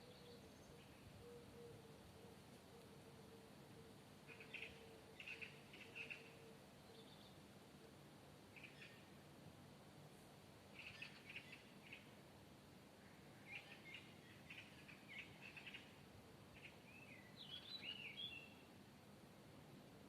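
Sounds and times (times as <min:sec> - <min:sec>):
songbird chirps: 0:00.0 - 0:09.2, 0:10.6 - 0:18.8
faint low background hum: 0:00.0 - 0:20.0.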